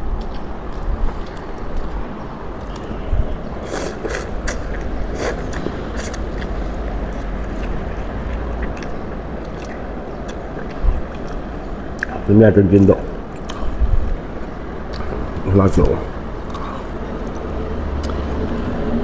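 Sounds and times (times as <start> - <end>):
steady low rumble: 0.0 - 19.0
chewing noodles: 0.2 - 19.0.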